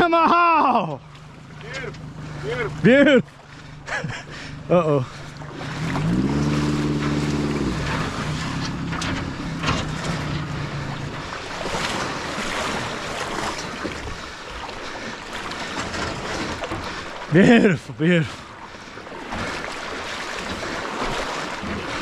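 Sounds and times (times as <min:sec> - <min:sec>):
boat engine revving: 0:00.0 - 0:22.0
water splashing: 0:00.0 - 0:22.0.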